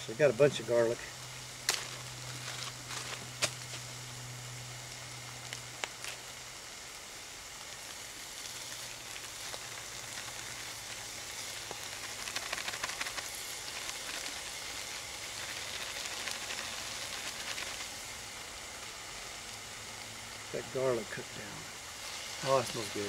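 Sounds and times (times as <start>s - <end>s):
garlic sizzling in skillet: 0.0s - 23.0s.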